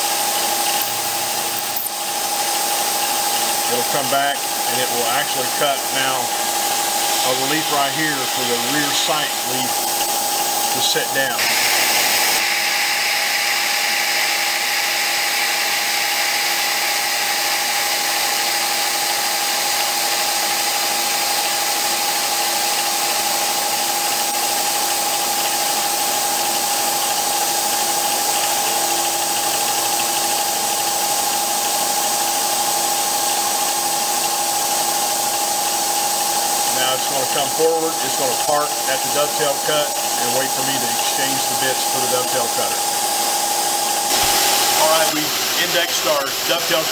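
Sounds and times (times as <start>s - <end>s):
milling machine whine and hiss: 0.0s - 46.9s.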